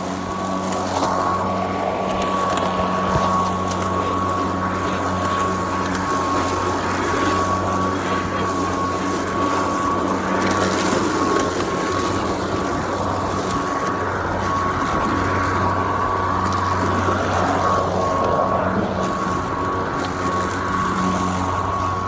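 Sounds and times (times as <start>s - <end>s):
lawn mower running: 0.0s - 22.0s.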